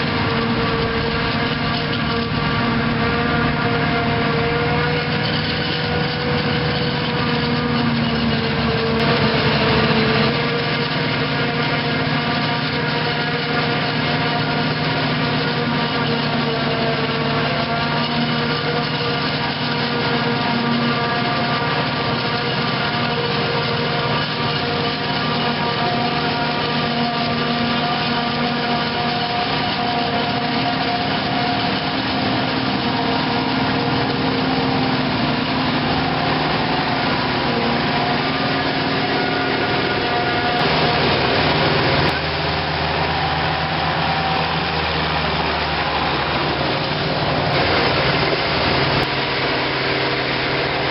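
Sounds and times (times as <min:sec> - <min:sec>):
diesel engines running: 0:00.0 - 0:50.9.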